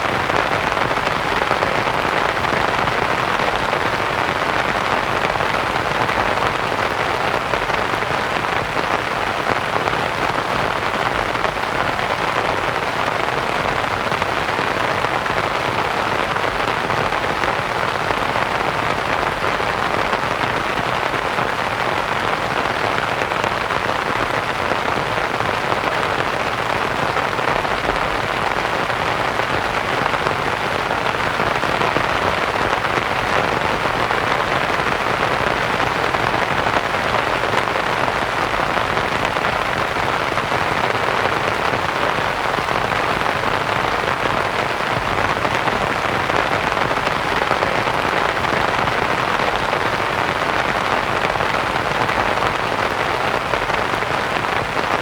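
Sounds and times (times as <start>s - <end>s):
rain pattering on a tent: 0.0s - 55.0s.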